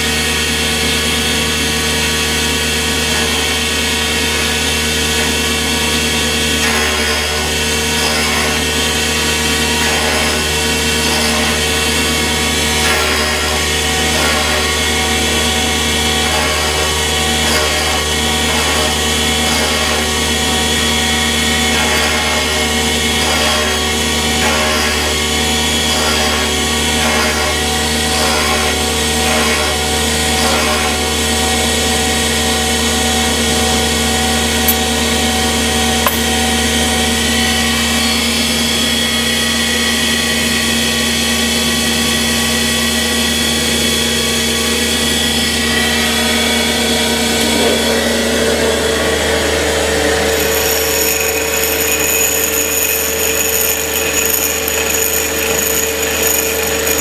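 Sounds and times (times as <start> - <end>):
grinding machine humming: 0.4 - 37.4, 44.8 - 57.0.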